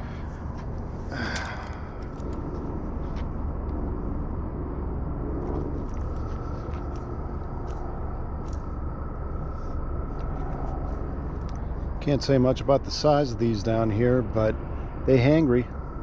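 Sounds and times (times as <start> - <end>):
high whine: 0.0 - 16.0
low mechanical rumble: 0.0 - 16.0.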